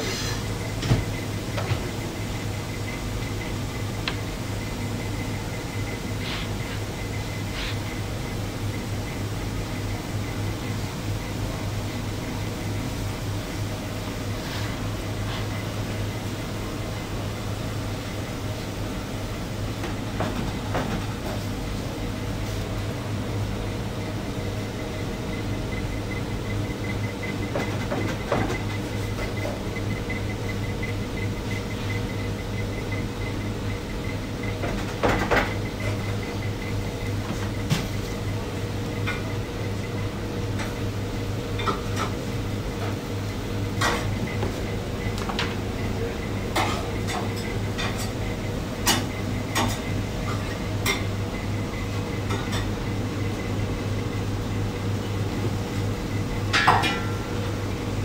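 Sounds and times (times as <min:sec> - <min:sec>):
kitchen equipment hum: 0:00.0 - 0:58.0.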